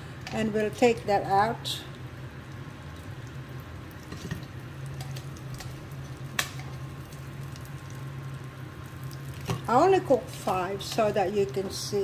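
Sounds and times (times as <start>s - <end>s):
spring rolls sizzling in oil: 0.0s - 12.0s
steady low hum: 0.0s - 12.0s.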